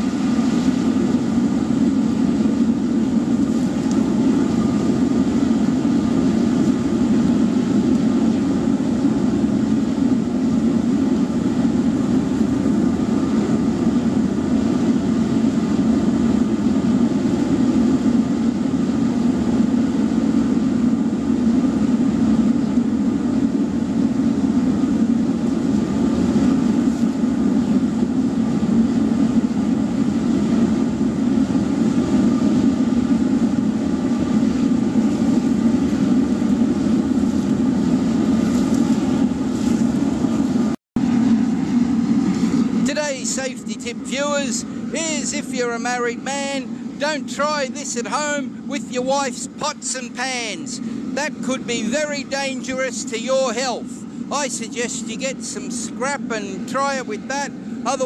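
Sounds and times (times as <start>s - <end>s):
oil burner low rushing: 0.0s - 58.0s.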